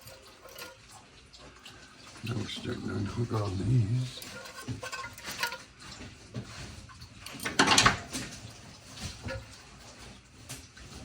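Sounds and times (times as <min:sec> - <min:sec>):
scraping rustle: 0:00.0 - 0:01.0, 0:02.4 - 0:11.0.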